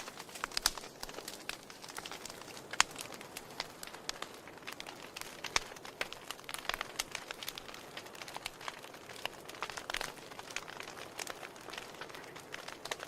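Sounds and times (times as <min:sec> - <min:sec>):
soft hiss of flame: 0:00.0 - 0:13.0
wood fire crackling and popping: 0:00.0 - 0:13.0.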